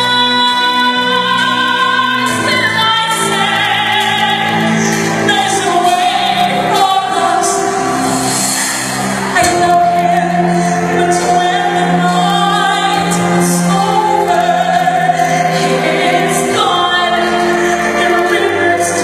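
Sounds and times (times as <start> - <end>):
musical accompaniment: 0.0 - 19.0
person singing long notes: 0.0 - 19.0.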